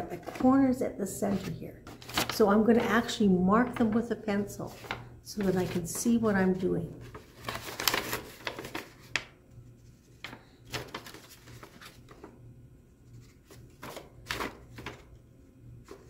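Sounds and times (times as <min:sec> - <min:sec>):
paper handling: 0:00.1 - 0:00.5, 0:01.3 - 0:12.4, 0:13.0 - 0:15.2, 0:15.8 - 0:16.0.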